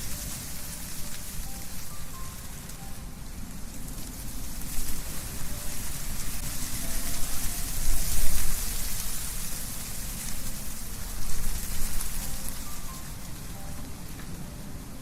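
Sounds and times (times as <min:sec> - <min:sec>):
wind rustling leaves in trees: 0:00.0 - 0:15.0.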